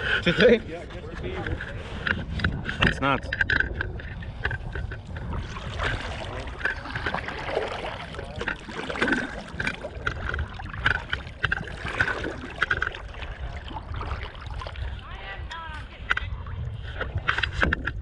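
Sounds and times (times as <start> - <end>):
paddle splashing and dripping: 0.0 - 18.0
water lapping at hull: 0.0 - 18.0
wind rumble on microphone: 0.0 - 18.0.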